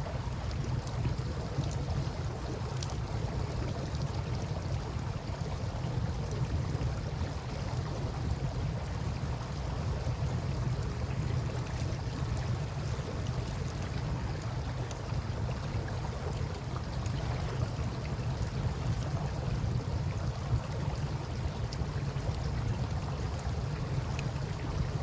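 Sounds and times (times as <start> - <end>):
river water lapping: 0.0 - 25.0.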